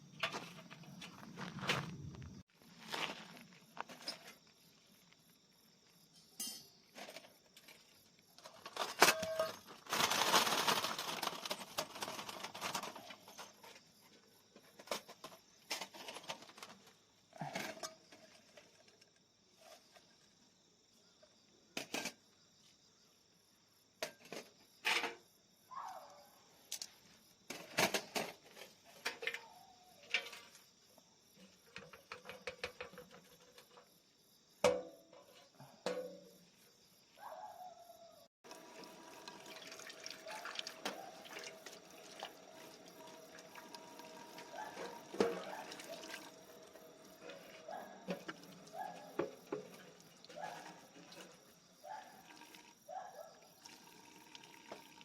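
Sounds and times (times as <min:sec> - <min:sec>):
insects trilling faintly: 0:00.0 - 0:55.0.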